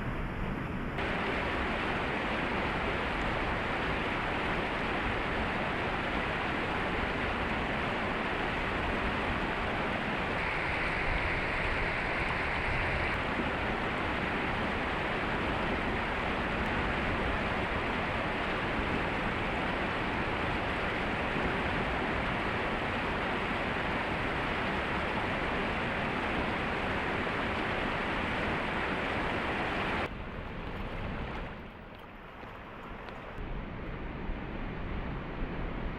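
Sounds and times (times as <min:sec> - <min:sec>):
waterfall rushing: 0:01.0 - 0:30.1.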